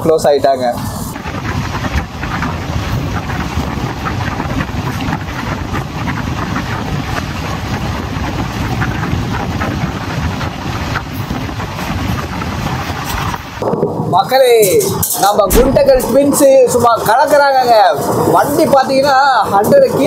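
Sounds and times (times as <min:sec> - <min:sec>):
train wheels rumbling on rails: 0:00.1 - 0:20.0.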